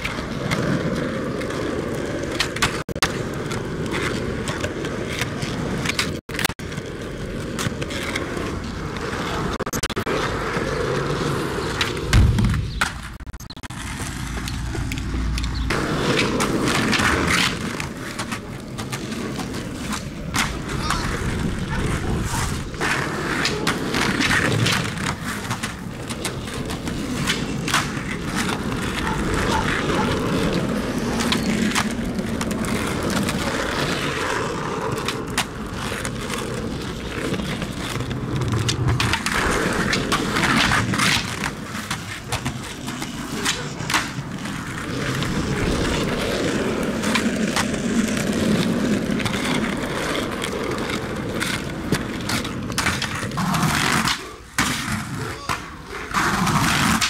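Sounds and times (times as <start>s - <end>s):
skateboard clacking on pavement: 0.0s - 57.0s
skateboard wheels rolling on asphalt: 0.0s - 57.0s.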